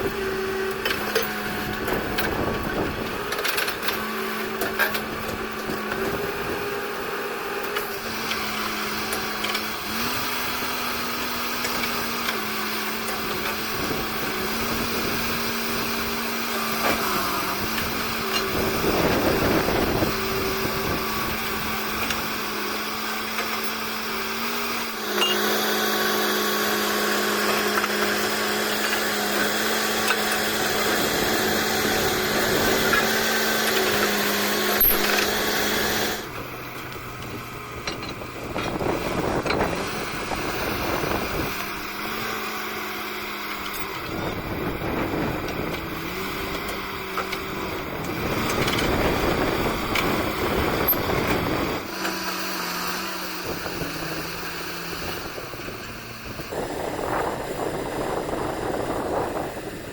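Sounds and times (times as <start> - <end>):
drilling rig engine under load: 0.0 - 59.9
rough noisy sound: 0.0 - 59.9.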